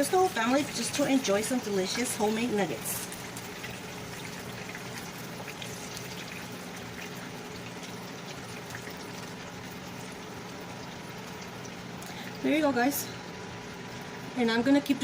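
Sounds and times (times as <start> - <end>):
oil sizzling in a pan: 0.0 - 14.4
low steady hum: 0.0 - 15.0.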